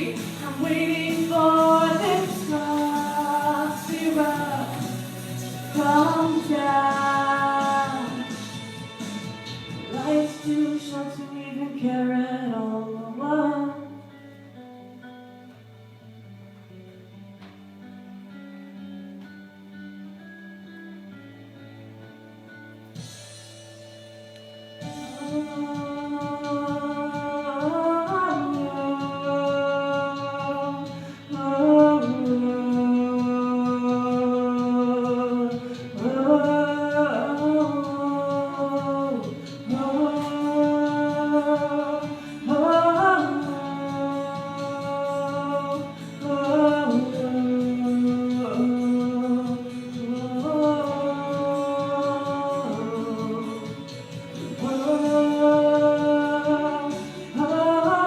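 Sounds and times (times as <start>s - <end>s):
woman singing wordless notes: 0.0s - 8.8s, 9.8s - 15.1s, 24.8s - 58.0s
instrumental accompaniment: 0.0s - 12.0s, 13.9s - 58.0s.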